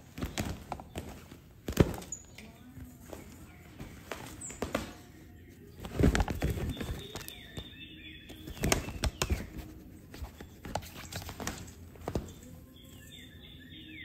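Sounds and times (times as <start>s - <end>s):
fabric tunnel rustling: 0.0s - 13.5s.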